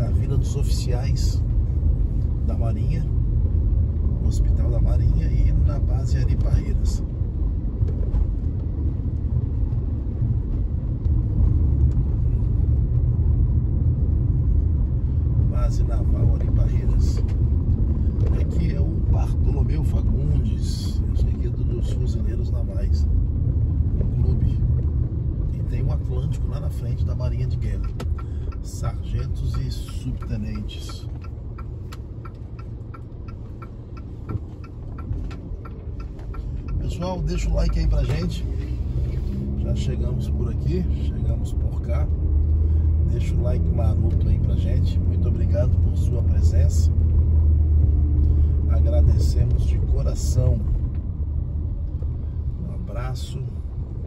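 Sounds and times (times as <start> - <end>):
car driving on wet street: 0.0 - 54.0
engine and tyre hum: 0.0 - 54.0
turn signal ticking: 0.0 - 54.0.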